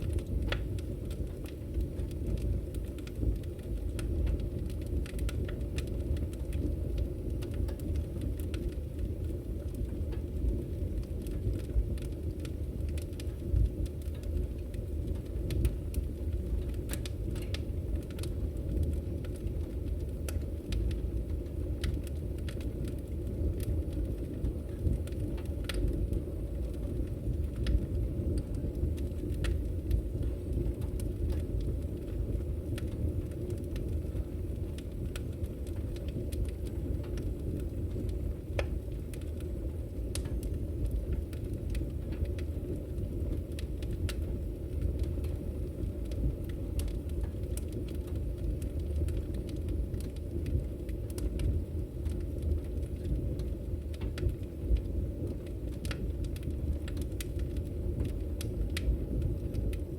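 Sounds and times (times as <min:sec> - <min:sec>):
fire rumbling: 0:00.0 - 0:59.9
firewood crackling and popping: 0:00.0 - 0:59.9.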